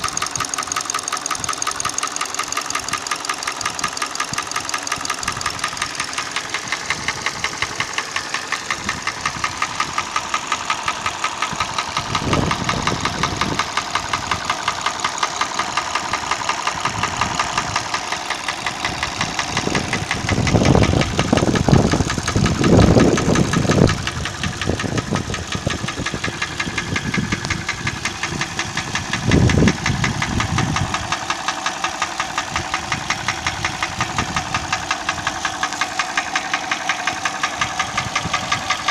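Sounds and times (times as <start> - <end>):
engine running with fast knock: 0.0 - 38.9.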